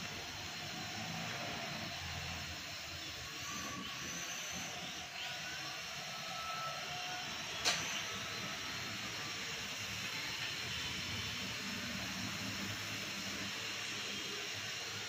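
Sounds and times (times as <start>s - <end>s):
toy quadcopter whirring: 0.0s - 15.0s.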